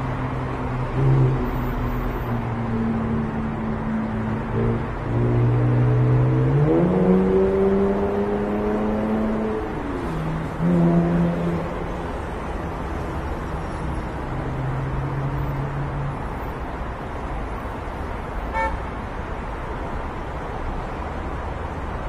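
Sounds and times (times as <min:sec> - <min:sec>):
road traffic passing: 0:00.0 - 0:22.0.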